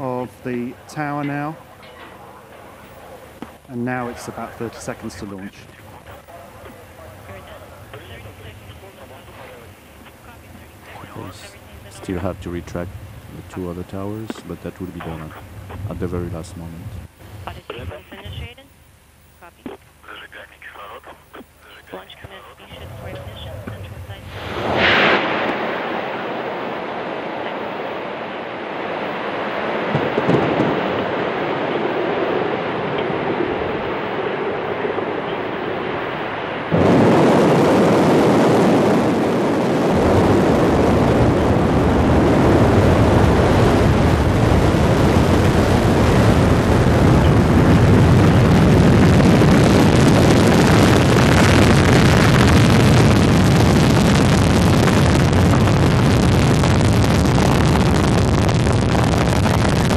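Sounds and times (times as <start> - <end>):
rocket engines roaring: 0.0 - 18.5, 21.6 - 59.9.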